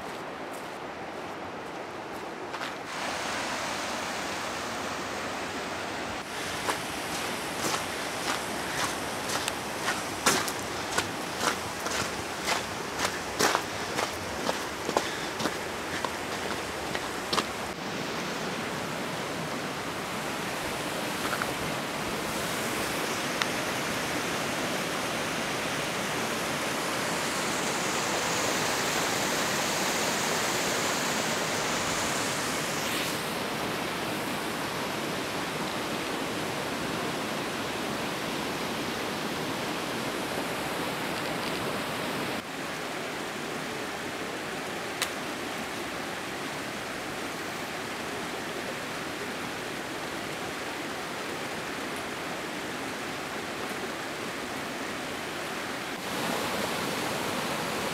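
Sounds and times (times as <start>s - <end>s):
rushing creek and waterfall: 0.0s - 57.9s.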